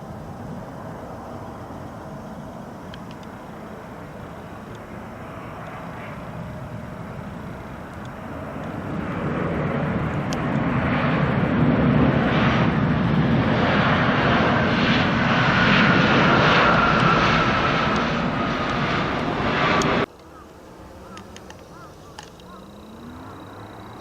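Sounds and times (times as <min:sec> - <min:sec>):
jet airliner passing low: 0:00.0 - 0:24.0
jet engine whine: 0:00.0 - 0:24.0.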